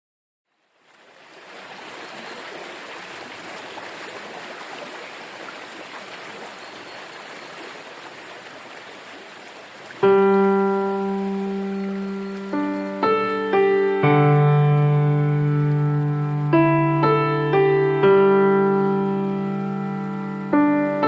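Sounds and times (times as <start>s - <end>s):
rushing water: 0.5s - 21.0s.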